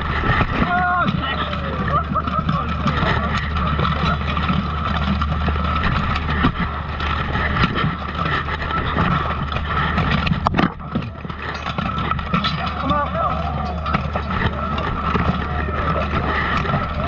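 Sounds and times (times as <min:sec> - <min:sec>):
camera rubbed by armour rumbling: 0:00.0 - 0:17.0
steel armour and weapons clanking: 0:00.0 - 0:17.0.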